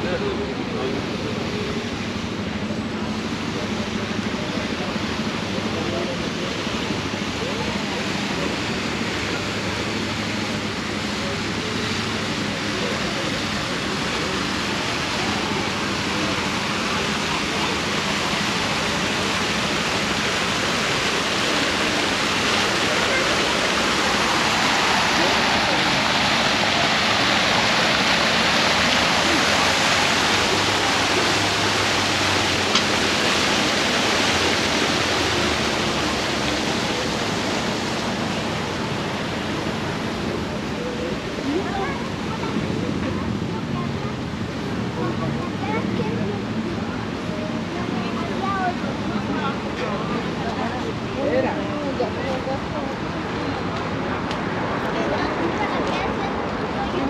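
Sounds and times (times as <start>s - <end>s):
fountain water splashing: 0.0s - 57.0s
murmur of voices: 0.0s - 57.0s.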